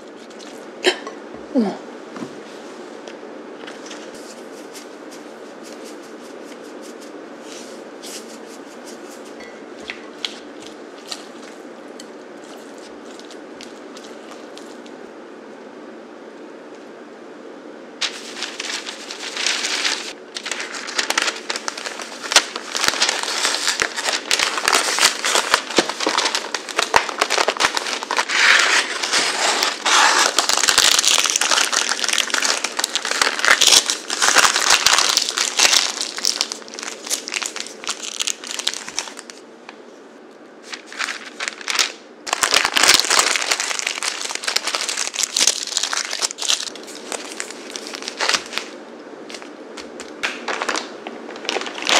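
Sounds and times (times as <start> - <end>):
paper crinkling and rustling: 3.6 - 15.0, 18.0 - 39.4, 40.6 - 51.9.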